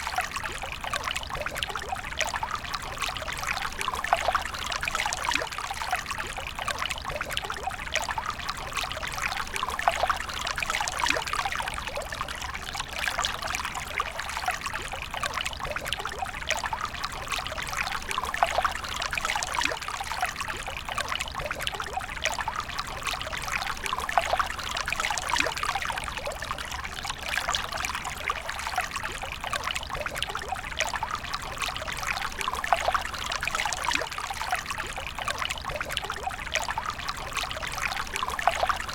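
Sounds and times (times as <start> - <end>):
water flowing in a stream: 0.0 - 38.9.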